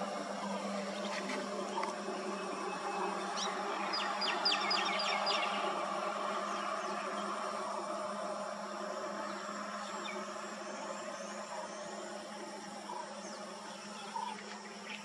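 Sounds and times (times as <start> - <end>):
insects droning: 0.0 - 15.0
steady low hum: 0.0 - 15.0.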